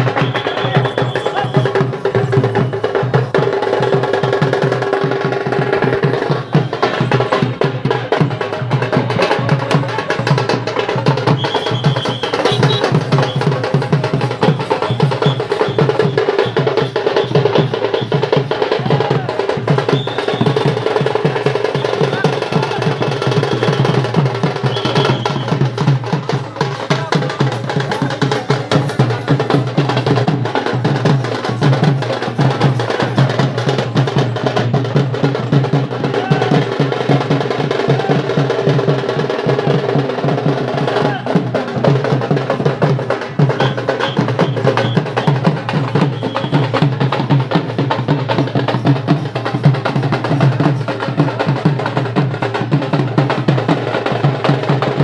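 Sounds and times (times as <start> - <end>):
dance music with fast drumming: 0.0 - 55.0.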